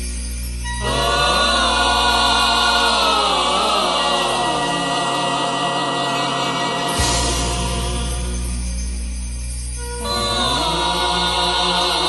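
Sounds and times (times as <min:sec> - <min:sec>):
held music chords: 0:00.0 - 0:12.0
voices singing together: 0:00.7 - 0:08.9, 0:09.8 - 0:12.0.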